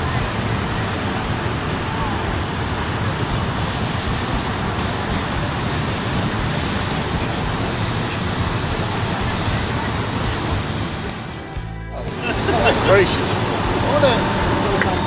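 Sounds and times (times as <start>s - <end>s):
motorcycle engine rumble: 0.0s - 15.0s
wind and road noise: 0.0s - 15.0s.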